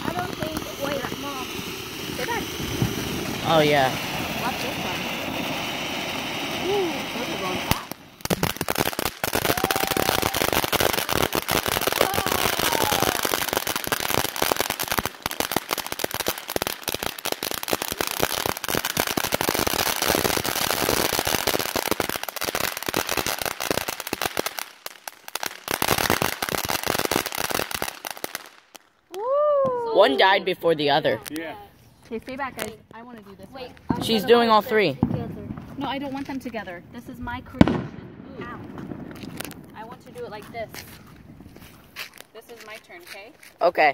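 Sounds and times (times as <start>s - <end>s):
fireworks crackling: 0.0s - 43.9s.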